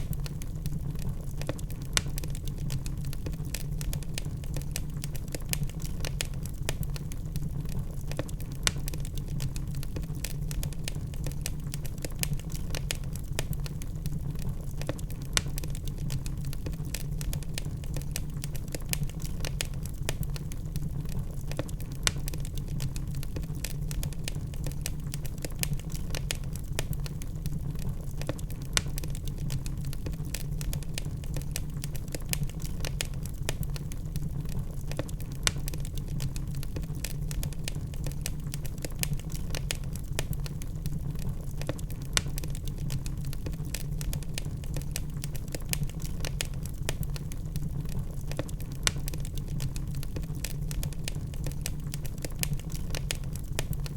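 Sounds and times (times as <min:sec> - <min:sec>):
logs crackling and popping: 0:00.0 - 0:53.9
low rumble of burning fire: 0:00.0 - 0:53.9.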